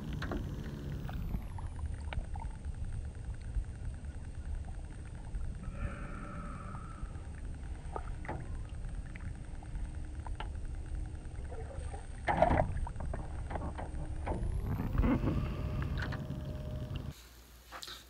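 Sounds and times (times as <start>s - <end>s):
water splashing and sloshing: 0.0s - 5.7s, 6.6s - 17.2s
steady low rumble: 0.0s - 17.2s.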